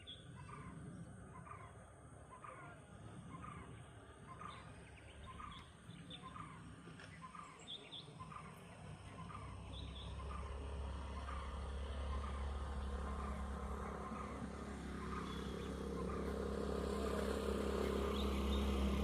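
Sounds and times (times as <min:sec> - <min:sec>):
low vehicle engine rumble: 0:00.0 - 0:19.0.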